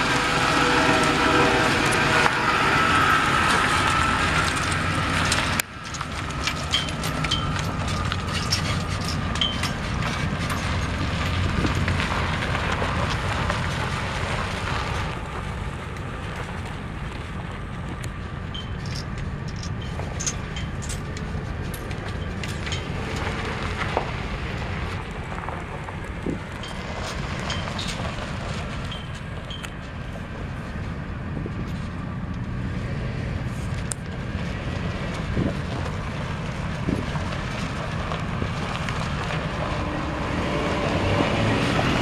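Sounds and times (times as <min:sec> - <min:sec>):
pickup truck engine running: 0:00.0 - 0:42.0
tyres crackling over gravel: 0:00.0 - 0:42.0.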